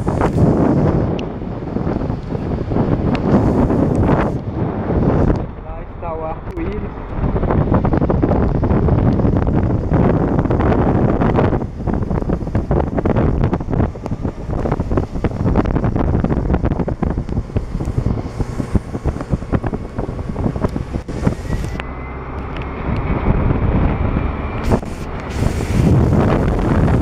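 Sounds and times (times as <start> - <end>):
car road and engine noise: 0.0 - 27.0
wind buffeting microphone: 0.0 - 27.0.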